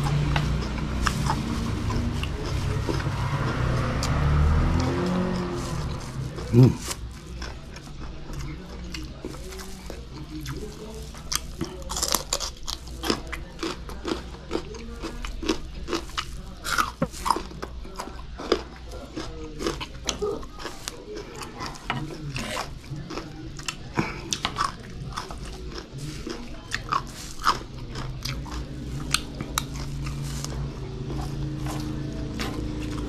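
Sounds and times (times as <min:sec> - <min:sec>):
crunching and chewing vegetables: 0:00.0 - 0:33.0.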